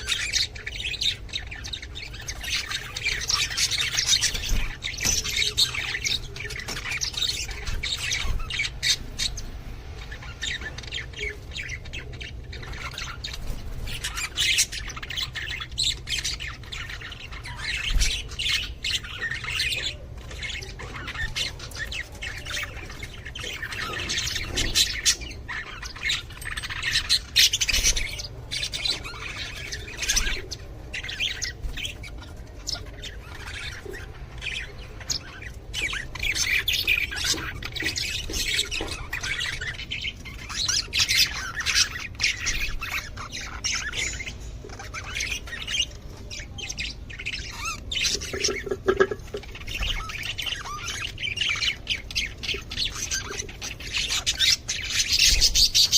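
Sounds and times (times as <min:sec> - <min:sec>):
budgerigars chattering and squawking: 0:00.0 - 0:55.9.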